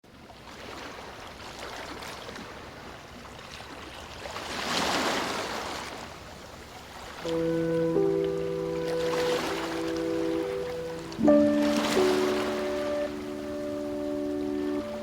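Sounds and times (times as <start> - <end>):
ocean waves washing onto beach: 0.1 - 15.0.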